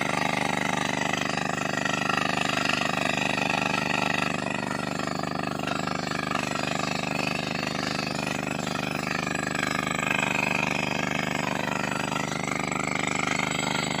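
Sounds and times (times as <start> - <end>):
drill rig engine drone: 0.0 - 14.0
fast even drilling pulses: 0.0 - 14.0.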